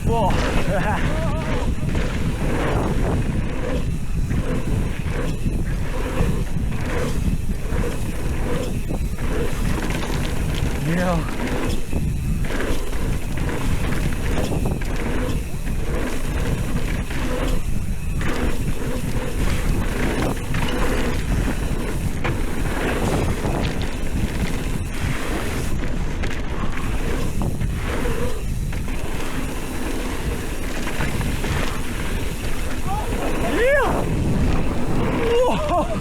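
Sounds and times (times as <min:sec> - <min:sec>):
bike knocks and rattles: 0:00.0 - 0:36.0
bike tyre rumble: 0:00.0 - 0:36.0
wind buffeting microphone: 0:00.0 - 0:36.0.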